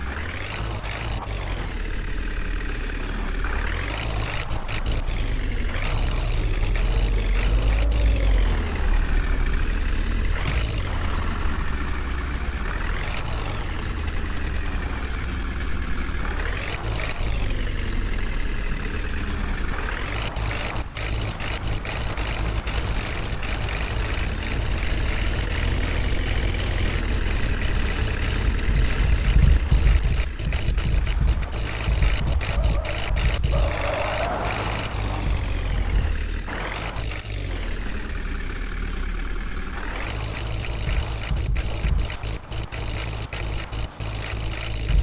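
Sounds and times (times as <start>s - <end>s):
diesel engine running under load: 0.0s - 45.0s.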